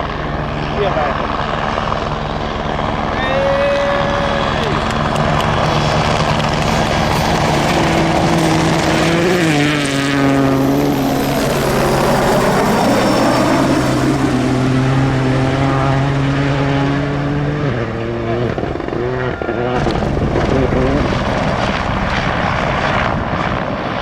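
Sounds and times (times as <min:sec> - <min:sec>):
helicopter flying past: 0:00.0 - 0:24.0.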